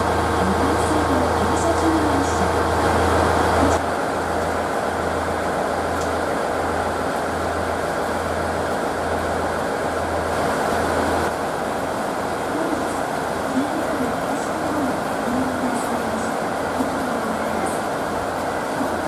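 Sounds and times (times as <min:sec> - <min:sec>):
pulsing low train hum: 0:00.0 - 0:19.0.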